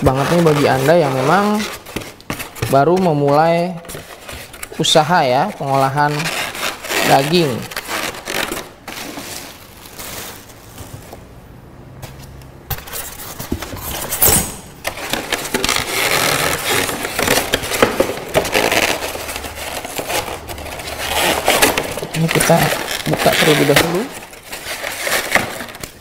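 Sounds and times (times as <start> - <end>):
styrofoam and cardboard rustling: 0.0 - 11.3, 12.0 - 26.0.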